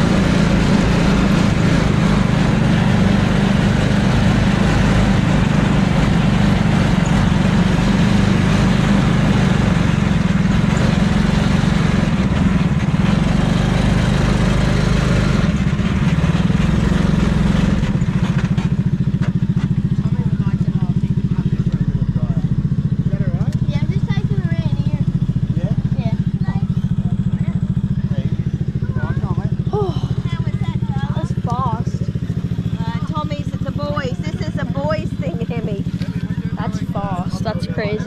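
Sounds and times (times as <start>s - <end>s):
car engine and exhaust: 0.0s - 38.0s.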